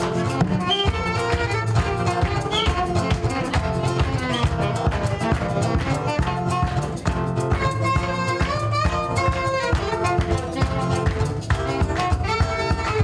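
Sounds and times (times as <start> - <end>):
acoustic band music: 0.0 - 13.0.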